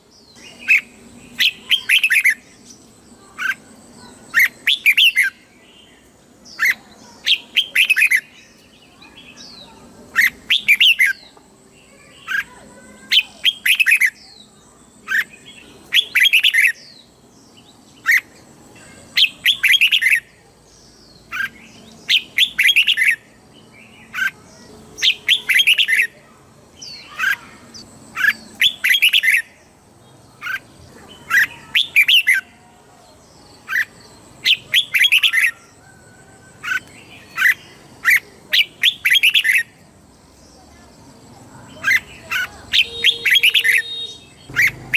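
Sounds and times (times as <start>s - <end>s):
bird singing warbled phrases: 0.0s - 44.9s.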